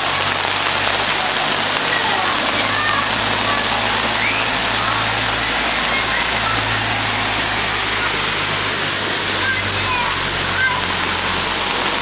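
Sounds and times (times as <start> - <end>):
heavy rain pouring: 0.0 - 12.0
rushing floodwater: 0.0 - 12.0.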